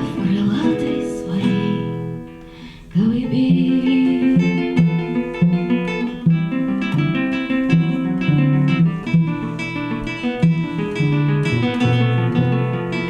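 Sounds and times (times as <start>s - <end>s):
acoustic guitar plucked and strummed: 0.0s - 13.0s.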